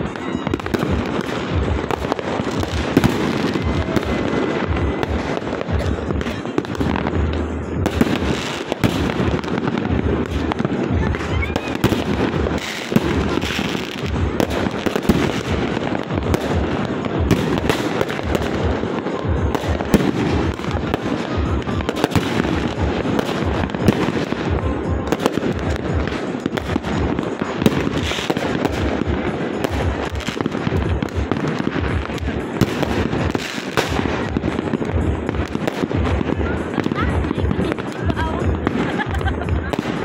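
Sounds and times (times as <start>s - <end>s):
fireworks bangs and crackles: 0.0s - 40.0s
loud firework booms: 0.0s - 40.0s.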